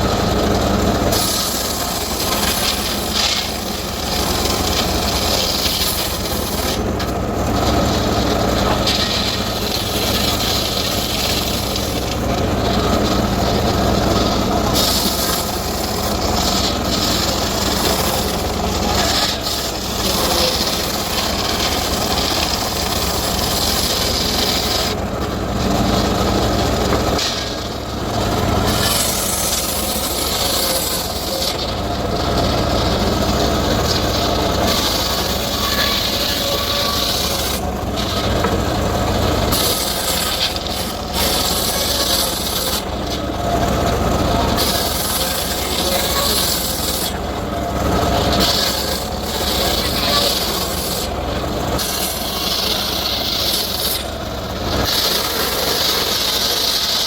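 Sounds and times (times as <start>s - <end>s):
circular saw cutting wood: 0.0s - 57.0s.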